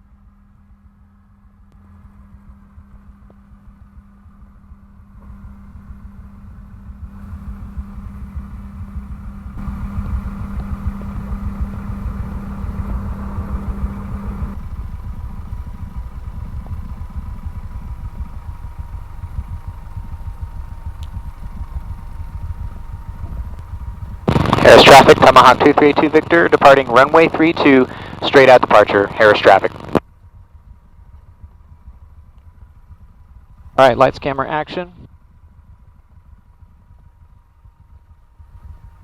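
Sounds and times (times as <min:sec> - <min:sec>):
aircraft engine low rumble: 0:00.0 - 0:39.0.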